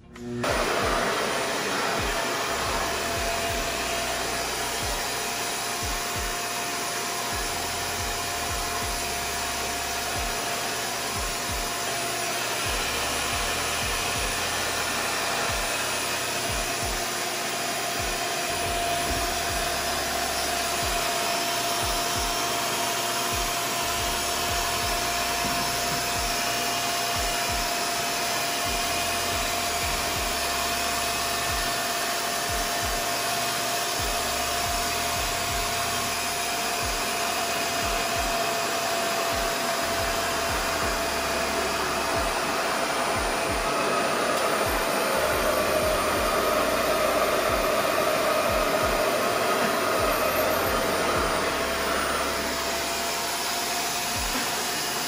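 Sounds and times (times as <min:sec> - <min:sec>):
hair dryer suction whooshing: 0:00.0 - 0:55.0.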